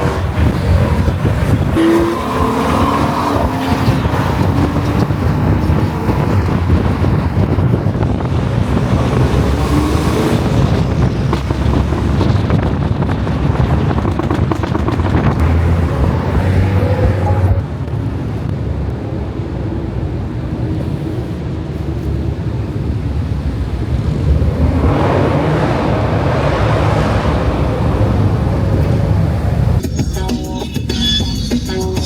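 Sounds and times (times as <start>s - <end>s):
wind buffeting microphone: 0.0s - 29.8s
car engines revving: 0.0s - 32.0s.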